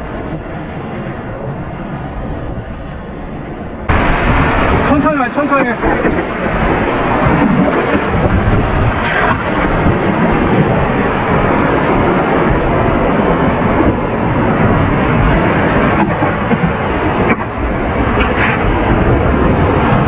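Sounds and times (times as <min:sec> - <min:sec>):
rushing water roaring: 0:00.0 - 0:20.0.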